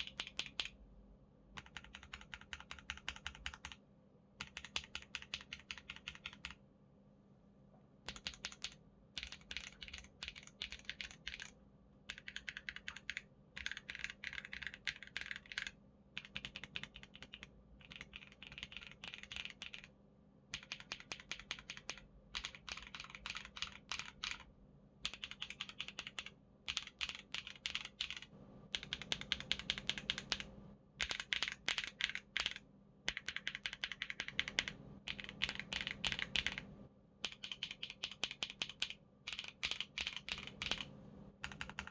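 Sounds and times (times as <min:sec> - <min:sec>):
mechanical keyboard typing: 0:00.0 - 0:00.8, 0:01.5 - 0:03.8, 0:04.4 - 0:06.6, 0:08.0 - 0:19.9, 0:20.5 - 0:41.9.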